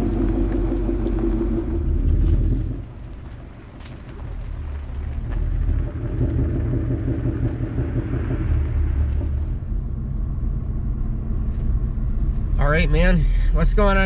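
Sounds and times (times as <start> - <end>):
car engine rumble inside cabin: 0.0 - 14.0.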